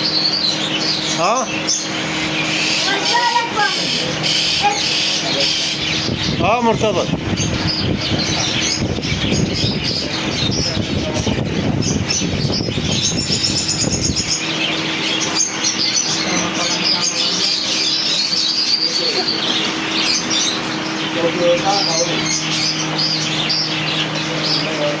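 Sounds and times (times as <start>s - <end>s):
songbirds chirping and trilling: 0.0s - 25.0s
steady hum: 0.0s - 25.0s
background chatter: 0.9s - 25.0s.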